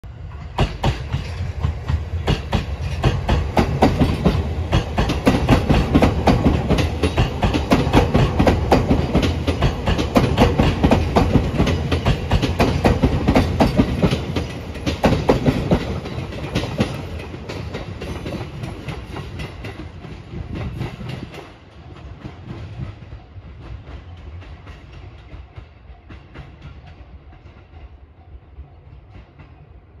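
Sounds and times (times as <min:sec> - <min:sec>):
train wheels clacking over rail joints: 0:00.3 - 0:28.0.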